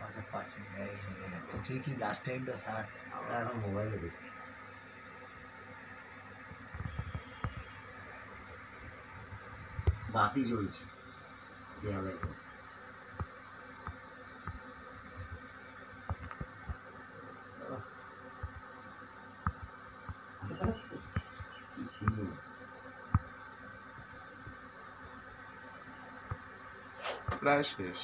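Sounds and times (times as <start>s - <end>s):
insect chirping trills: 0.0s - 28.0s.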